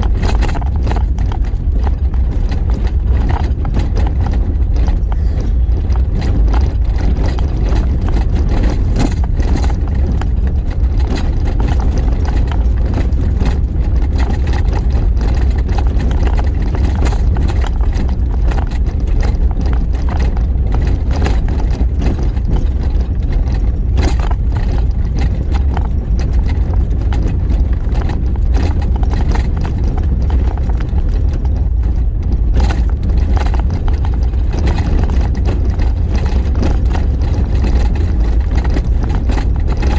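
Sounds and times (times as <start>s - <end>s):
engine and tyre rumble: 0.0s - 39.9s
rattles and knocks over bumps: 0.0s - 39.9s.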